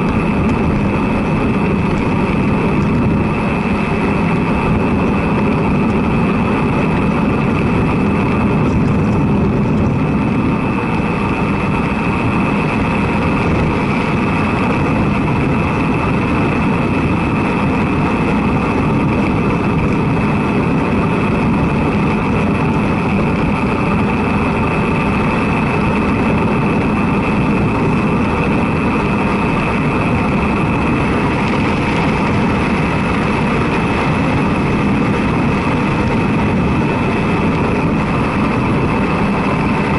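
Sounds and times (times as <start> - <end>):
tyres humming on asphalt: 0.0 - 39.9
wind on microphone: 0.0 - 39.9.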